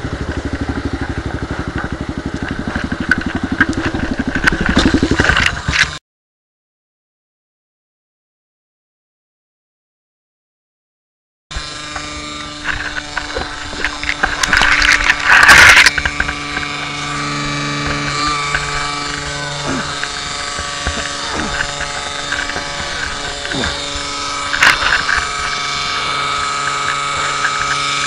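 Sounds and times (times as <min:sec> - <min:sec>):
motorcycle engine running: 0:00.0 - 0:06.0, 0:11.5 - 0:28.0.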